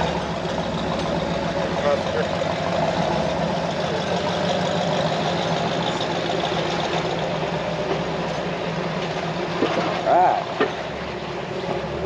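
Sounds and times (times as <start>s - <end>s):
vehicle engines droning: 0.0s - 12.0s.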